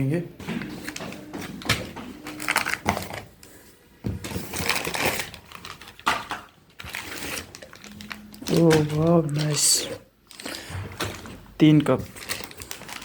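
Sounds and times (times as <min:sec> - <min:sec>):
packing material rustling: 0:00.8 - 0:13.0.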